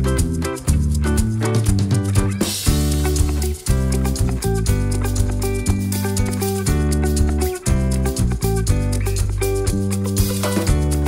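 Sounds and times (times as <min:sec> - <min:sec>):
held bass notes: 0:00.0 - 0:11.0
plucked melody notes: 0:00.0 - 0:11.0.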